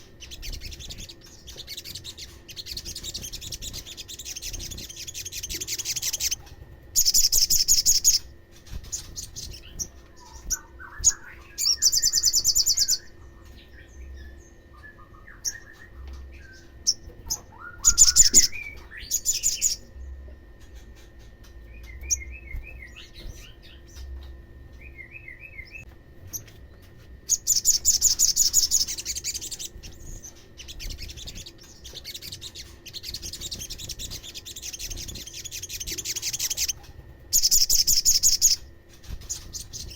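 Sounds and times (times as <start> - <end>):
bird trilling: 0.0 - 26.5, 27.2 - 39.9
bird chirping and twittering: 0.0 - 39.9.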